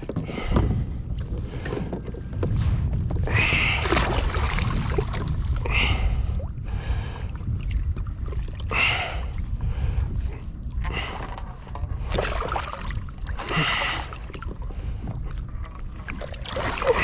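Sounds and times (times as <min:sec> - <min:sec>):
water splashing at kayak: 0:00.0 - 0:09.6, 0:10.2 - 0:17.0
wind rumble on microphone: 0:00.0 - 0:17.0.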